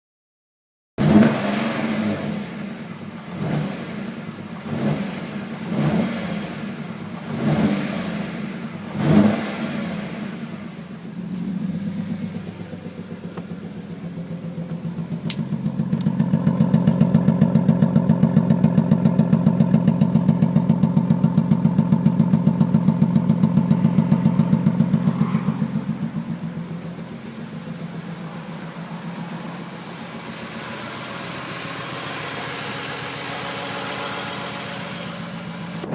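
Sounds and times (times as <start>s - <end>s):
car engine revving: 1.0s - 35.9s.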